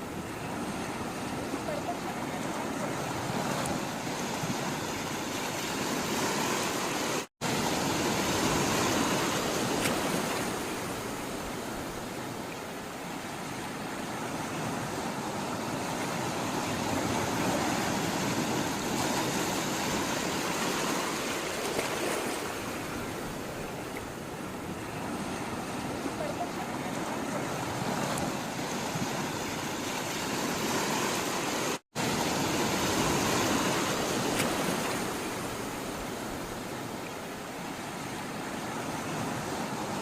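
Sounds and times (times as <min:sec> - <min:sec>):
sea water rushing: 0:00.0 - 0:40.0.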